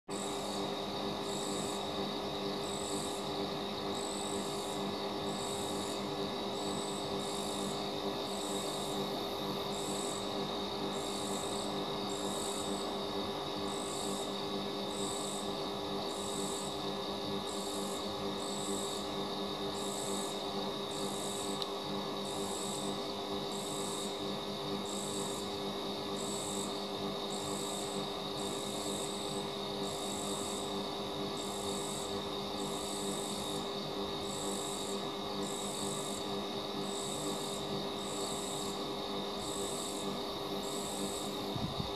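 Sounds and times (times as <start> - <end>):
high-pitched insect trill: 0.1 - 41.9
insect chirping: 0.1 - 41.9.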